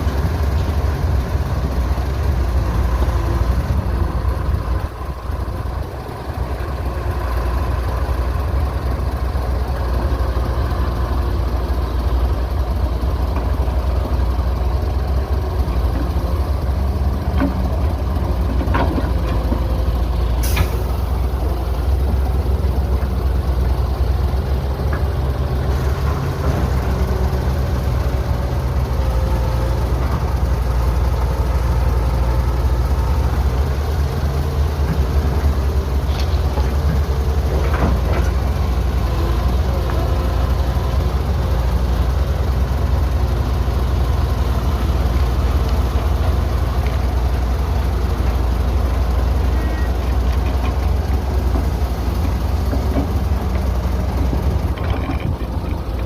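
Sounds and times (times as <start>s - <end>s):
diesel machinery droning: 0.0s - 56.0s.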